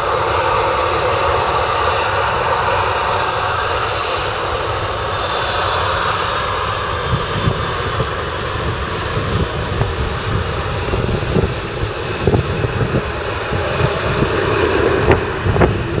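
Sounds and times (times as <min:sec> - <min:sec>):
jet engines idling: 0:00.0 - 0:16.0
wind buffeting microphone: 0:00.0 - 0:16.0.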